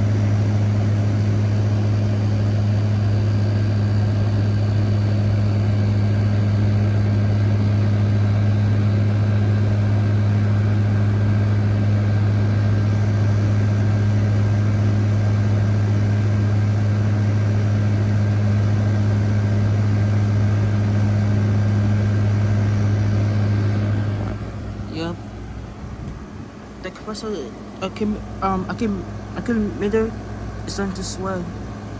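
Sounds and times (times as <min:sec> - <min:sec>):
air conditioner running: 0:00.0 - 0:31.9.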